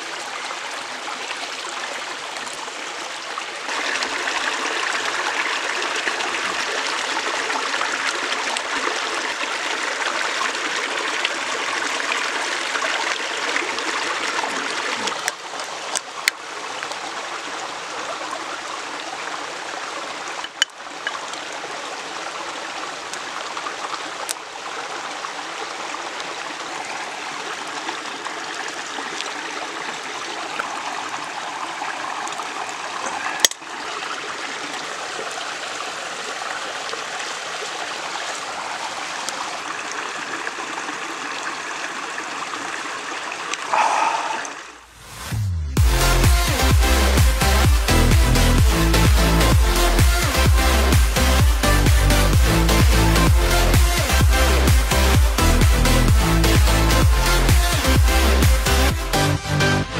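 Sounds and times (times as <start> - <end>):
stream running over rocks: 0.0 - 59.2.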